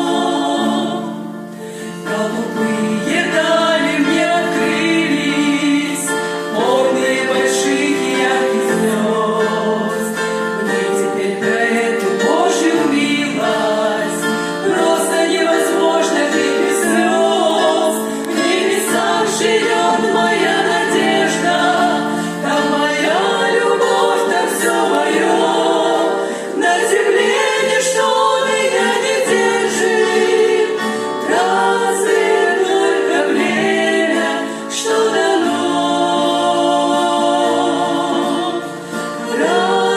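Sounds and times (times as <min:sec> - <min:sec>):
choir singing: 0:00.0 - 0:39.9
music: 0:00.0 - 0:39.9.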